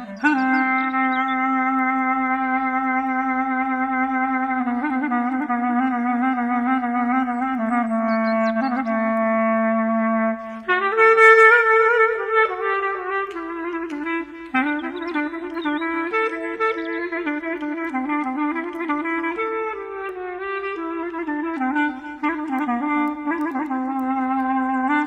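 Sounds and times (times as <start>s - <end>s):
solo clarinet melody: 0.0s - 25.0s.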